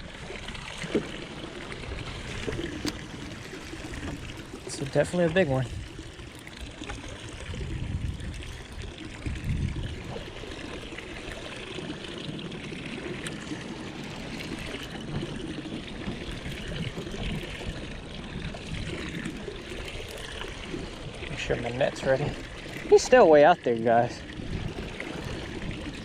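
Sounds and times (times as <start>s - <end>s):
water lapping against boat hull: 0.0s - 26.0s
wind rumbling on microphone: 0.0s - 26.0s.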